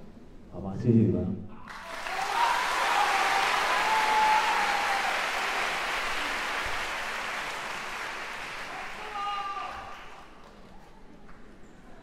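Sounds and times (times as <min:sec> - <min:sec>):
audience applauding: 0:01.7 - 0:11.3.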